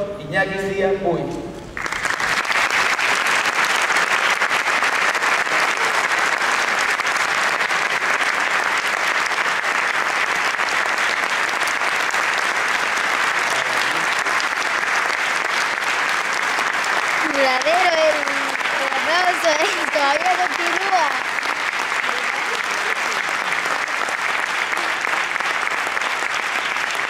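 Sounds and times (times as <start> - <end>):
audience applauding: 1.8 - 27.0.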